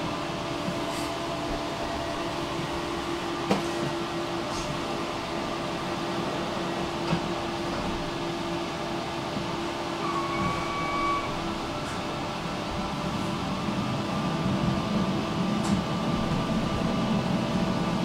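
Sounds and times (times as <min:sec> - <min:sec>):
tram hum: 0:00.0 - 0:18.0.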